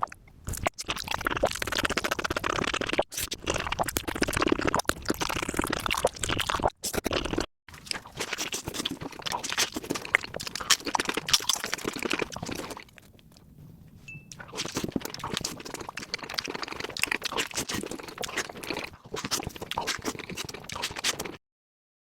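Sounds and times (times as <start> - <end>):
mouth clicks: 0.0 - 13.5, 14.1 - 21.4
crunchy chewing: 0.0 - 21.4.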